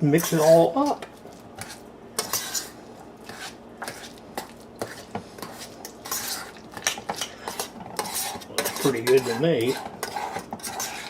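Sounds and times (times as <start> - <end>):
utensil scraping a bowl: 1.6 - 11.0.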